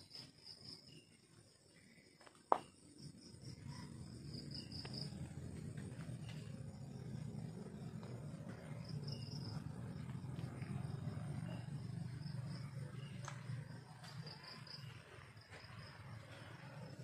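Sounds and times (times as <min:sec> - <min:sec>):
crickets chirping: 0:00.0 - 0:17.0
low steady rumble: 0:02.9 - 0:17.0.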